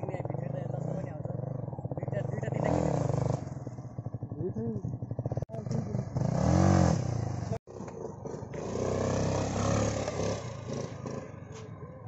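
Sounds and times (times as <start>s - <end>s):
motorcycle engine revving: 0.0s - 12.0s
scooter engine accelerating away: 0.1s - 12.0s.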